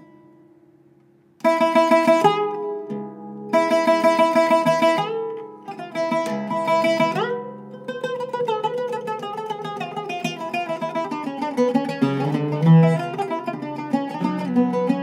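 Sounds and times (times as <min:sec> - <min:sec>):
oud plucked with plectrum: 0:00.0 - 0:15.0.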